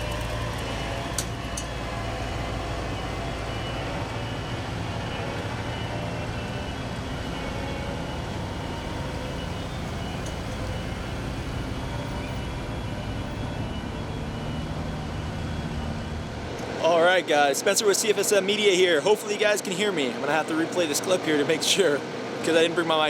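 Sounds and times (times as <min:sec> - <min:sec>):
road traffic with heavy engines: 0:00.0 - 0:17.5, 0:20.0 - 0:22.7.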